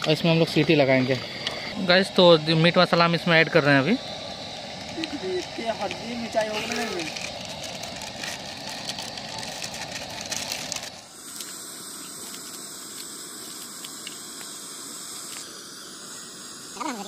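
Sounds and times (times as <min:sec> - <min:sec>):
simmering pot hiss: 0:00.0 - 0:17.0.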